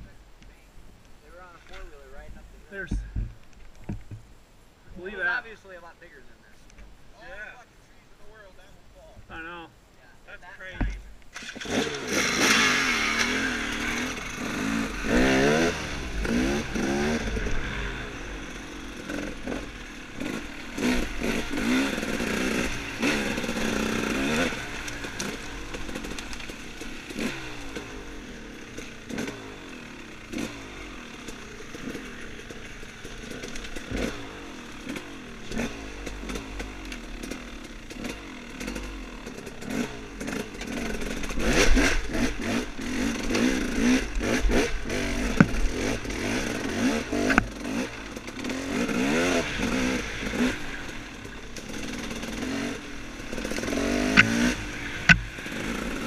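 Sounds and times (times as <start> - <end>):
bike rattling over rough ground: 10.7 - 56.0
dirt bike engine revving: 10.7 - 56.0.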